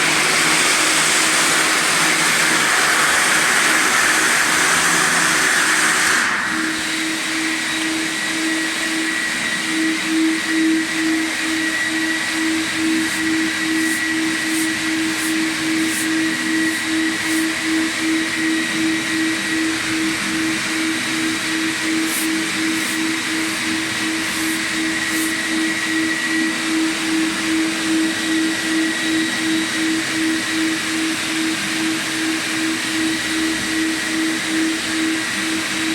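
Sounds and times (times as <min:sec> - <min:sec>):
floor sanding machine grinding: 0:00.0 - 0:35.9.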